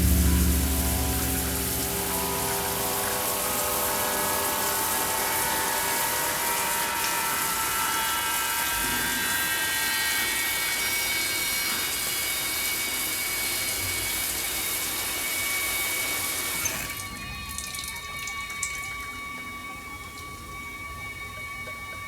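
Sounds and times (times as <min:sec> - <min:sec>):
faint sustained tones: 0:00.0 - 0:13.5, 0:17.2 - 0:22.0
running water rushing: 0:00.0 - 0:22.0.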